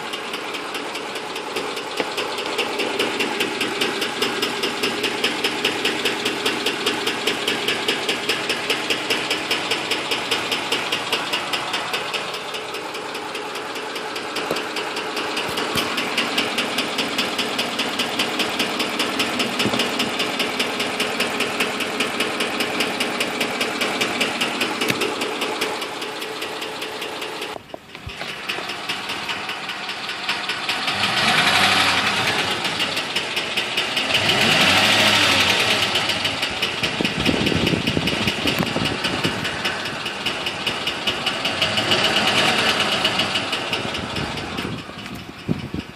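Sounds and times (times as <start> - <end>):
engine revving: 0.0 - 45.9
engine running with fast ticking: 0.0 - 45.9.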